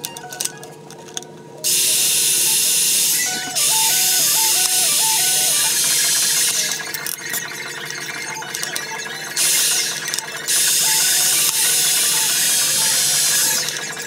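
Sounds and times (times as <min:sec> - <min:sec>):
background music: 0:00.0 - 0:14.0
pipe threading machine hissing: 0:01.6 - 0:14.0.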